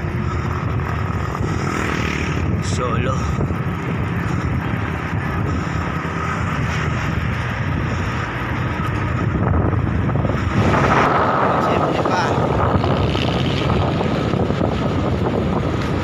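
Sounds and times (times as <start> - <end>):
wind on microphone: 0.0 - 16.0
tyres rumbling on concrete: 2.5 - 16.0.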